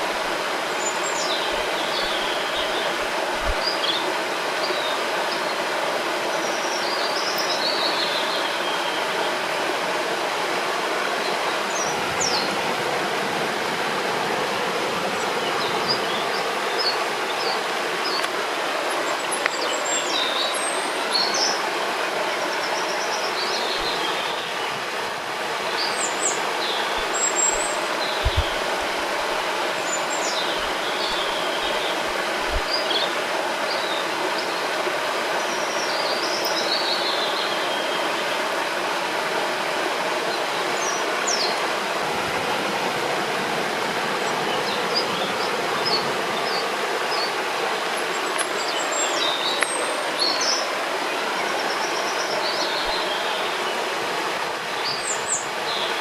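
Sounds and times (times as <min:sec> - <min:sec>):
river water rushing: 0:00.0 - 0:56.0
songbirds chirping: 0:00.0 - 0:56.0.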